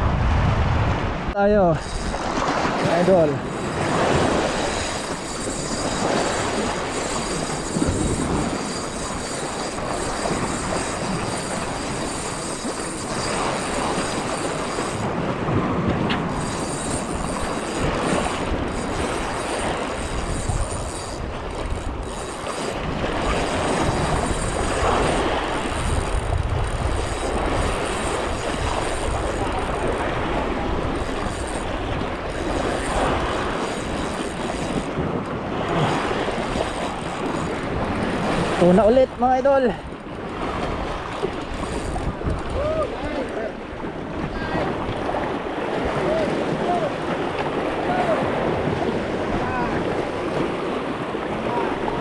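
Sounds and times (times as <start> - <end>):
sea waves splashing: 0.0 - 52.0
wind on microphone: 0.0 - 52.0.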